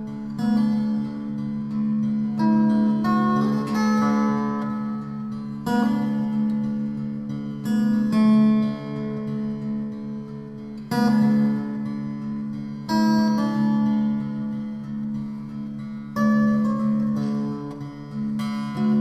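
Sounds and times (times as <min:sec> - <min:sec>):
plucked-string chords: 0:00.0 - 0:19.0.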